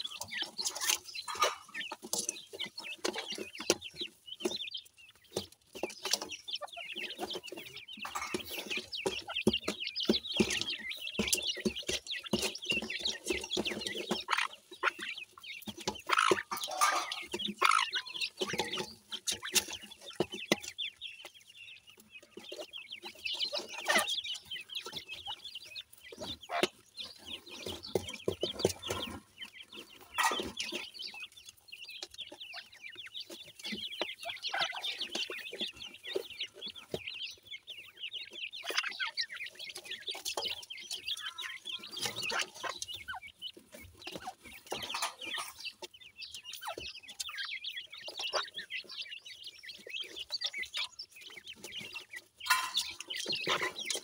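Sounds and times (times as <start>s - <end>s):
chicks cheeping: 0.0s - 54.0s.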